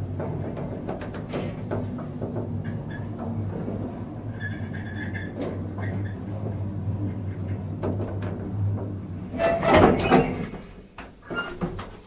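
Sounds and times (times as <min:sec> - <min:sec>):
elevator humming: 0:00.0 - 0:10.6
sliding doors rattling: 0:00.0 - 0:10.8.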